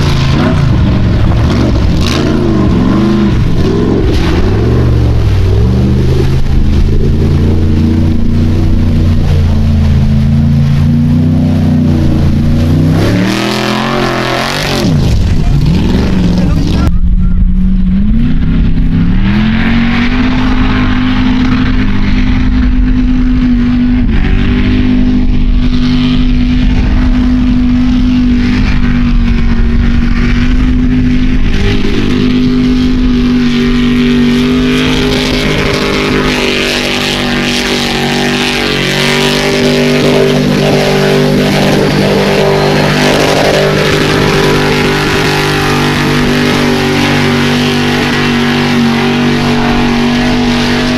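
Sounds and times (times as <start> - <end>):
buggy engine at full throttle: 0.0 - 50.9.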